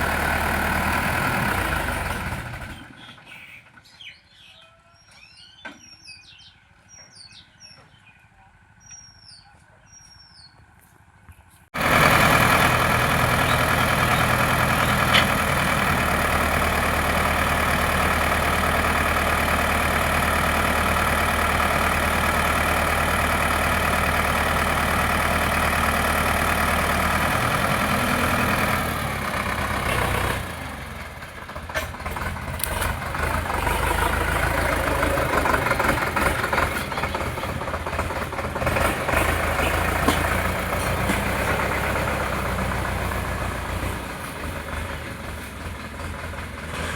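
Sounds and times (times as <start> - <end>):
tractor diesel engine running: 0.0 - 4.5, 10.7 - 46.9.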